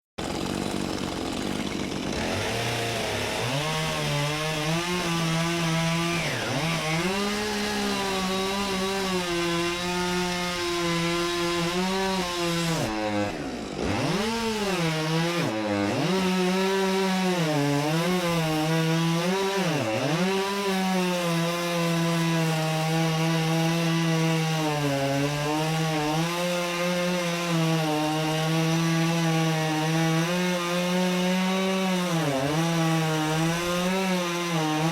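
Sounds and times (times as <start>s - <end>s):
chainsaw cutting wood: 0.2s - 34.9s.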